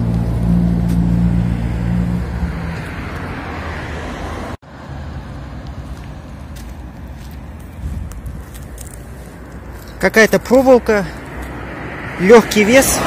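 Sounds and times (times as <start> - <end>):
car passing: 0.0 - 13.0
steady traffic noise: 0.0 - 13.0
vehicle engine humming: 0.0 - 13.0.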